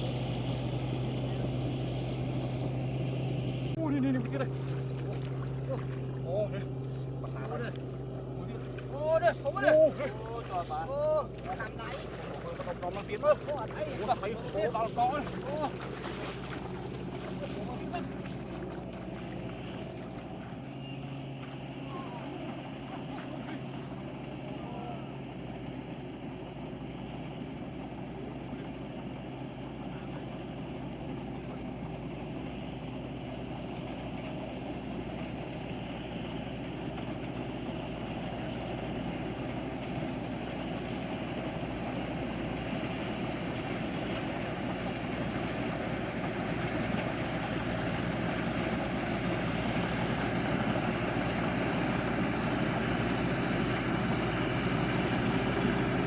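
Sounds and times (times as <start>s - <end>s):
harvester engine running: 0.0s - 56.0s.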